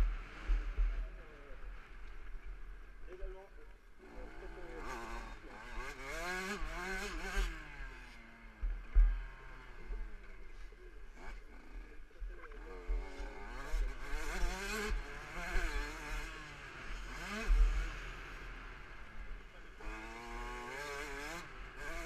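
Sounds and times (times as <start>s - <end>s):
two-stroke motorbike engine revving: 0.0s - 2.5s, 4.0s - 22.0s.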